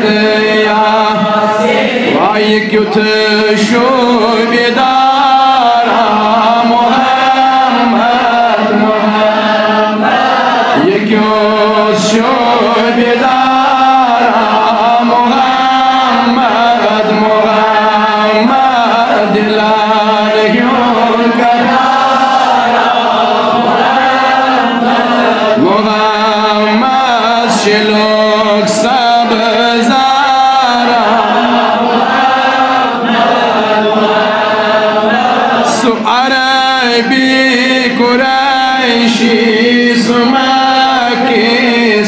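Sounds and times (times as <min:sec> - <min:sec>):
man singing a chant: 0:00.0 - 0:42.0.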